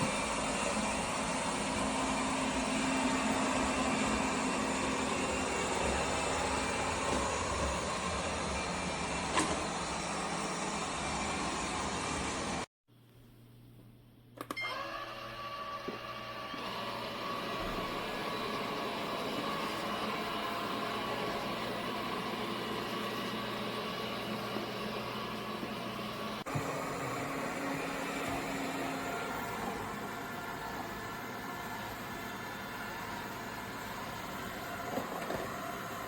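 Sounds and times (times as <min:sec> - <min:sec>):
robot vacuum whirring: 0:00.0 - 0:12.6, 0:14.7 - 0:36.0.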